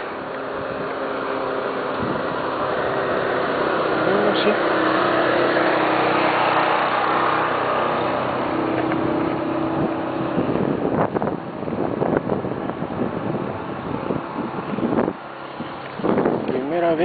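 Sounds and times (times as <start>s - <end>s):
car engine running: 0.0s - 17.0s
wind buffeting microphone: 0.0s - 17.0s.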